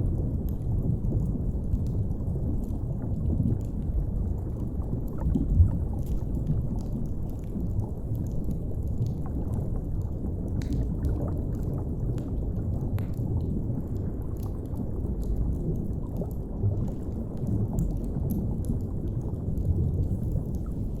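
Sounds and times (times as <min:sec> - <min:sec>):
low underwater rumble: 0:00.0 - 0:21.0.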